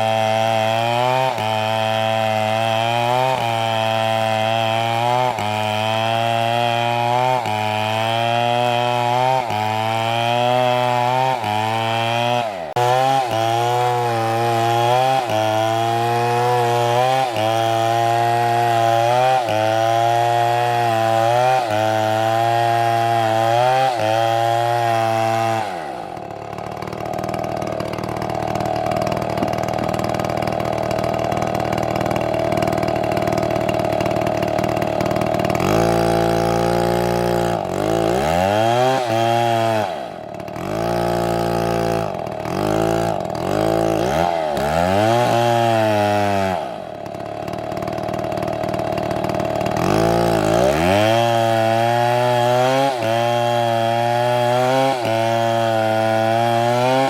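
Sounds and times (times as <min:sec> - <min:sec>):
chainsaw cutting tree: 0:00.0 - 0:57.0.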